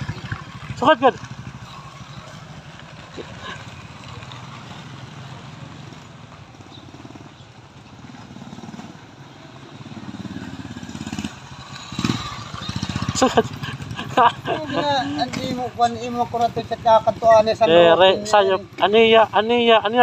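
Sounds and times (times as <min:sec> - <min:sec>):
small motorcycles passing: 0:00.0 - 0:20.0.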